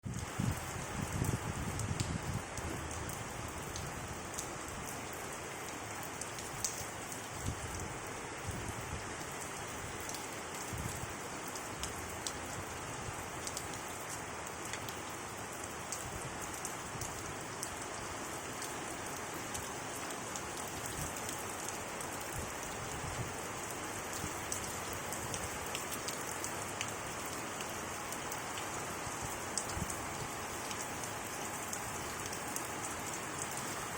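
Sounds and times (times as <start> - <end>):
raindrops ticking on surfaces: 0.0 - 33.9
steady rain falling: 0.0 - 33.9.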